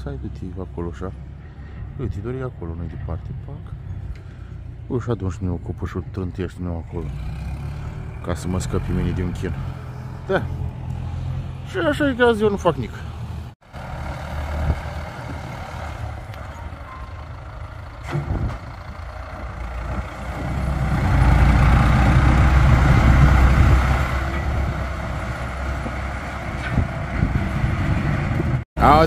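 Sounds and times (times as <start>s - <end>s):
diesel engine labouring: 0.0s - 29.0s.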